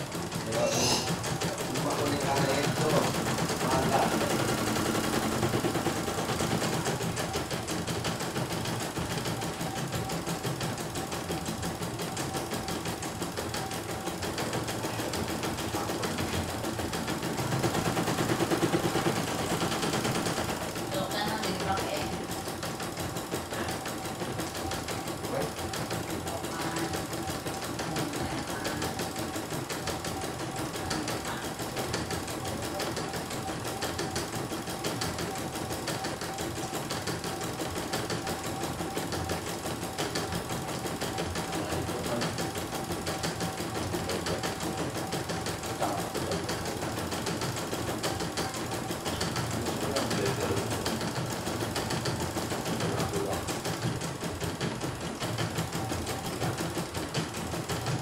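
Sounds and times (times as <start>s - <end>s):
embroidery machine stitching: 0.0s - 58.0s.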